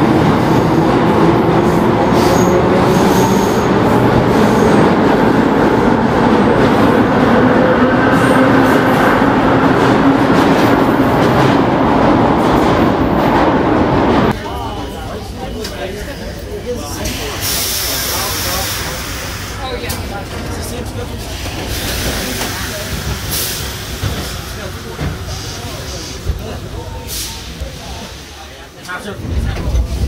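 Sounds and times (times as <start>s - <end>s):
subway train rumbling past: 0.0s - 30.0s.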